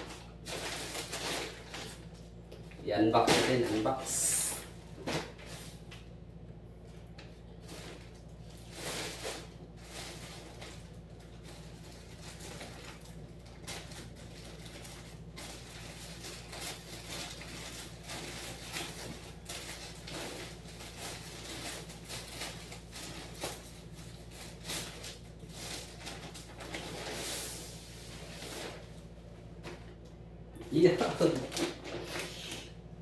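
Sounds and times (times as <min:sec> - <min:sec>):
plastic packaging rustling: 0:00.0 - 0:05.8, 0:06.9 - 0:30.0.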